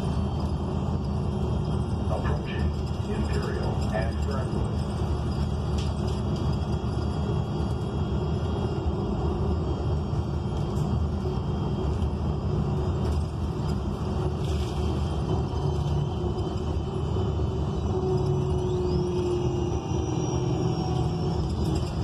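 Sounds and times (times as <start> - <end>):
bus engine rumble: 0.0 - 22.0
road noise: 0.0 - 22.0.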